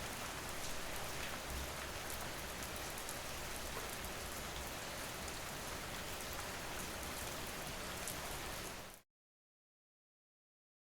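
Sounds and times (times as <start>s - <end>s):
steady rain: 0.0s - 9.0s.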